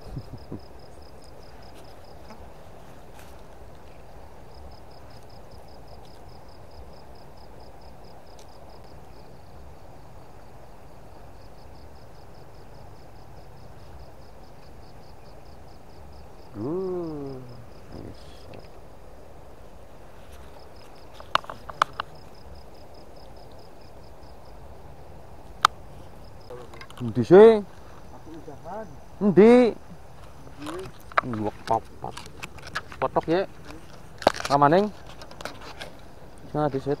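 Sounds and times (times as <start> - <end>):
insect chirping trill: 0.0 - 37.0.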